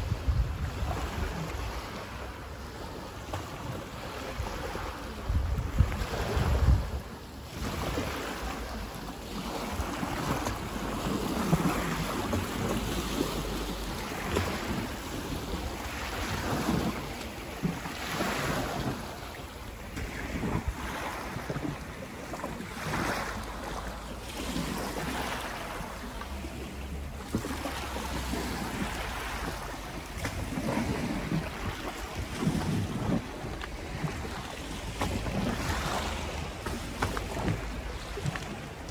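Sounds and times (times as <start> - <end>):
small waves lapping at shore: 0.0 - 38.9
wind rumbling on microphone: 0.0 - 38.9.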